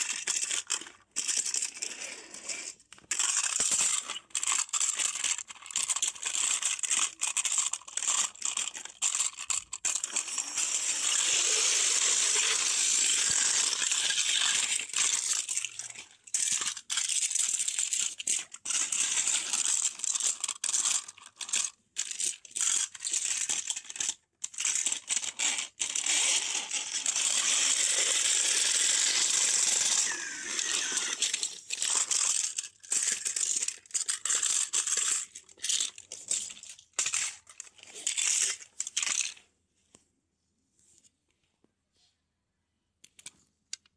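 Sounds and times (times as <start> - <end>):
motorised toy buzzing and rattling: 0.0 - 39.4.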